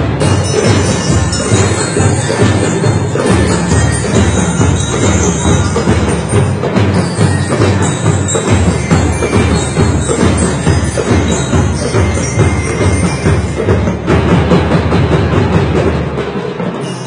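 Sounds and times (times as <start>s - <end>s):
bell lyres playing tune: 0.0s - 17.0s
marching drums: 0.0s - 17.0s.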